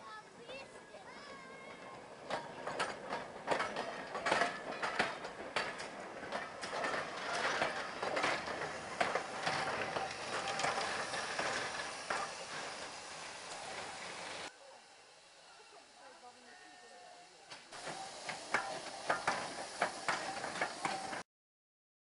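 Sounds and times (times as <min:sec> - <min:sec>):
metallic clanks of passing train: 0:00.4 - 0:14.5, 0:15.5 - 0:21.2.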